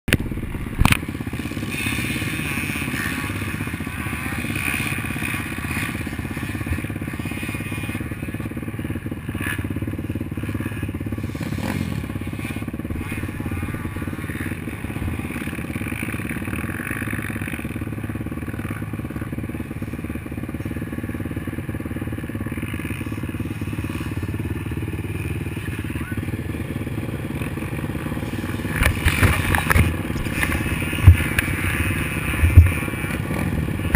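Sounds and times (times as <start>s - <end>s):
racing engine running: 0.1s - 33.9s.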